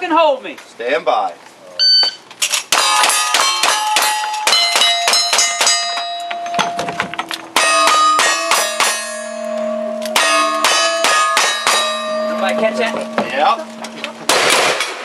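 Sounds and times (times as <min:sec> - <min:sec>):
steel targets clanging: 0:02.4 - 0:15.0.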